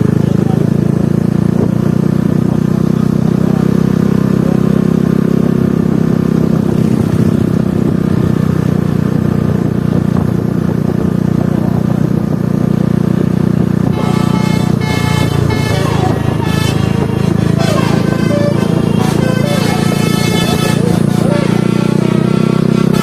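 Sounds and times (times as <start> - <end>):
road noise: 0.0 - 23.0
vehicle engine droning: 0.0 - 23.0.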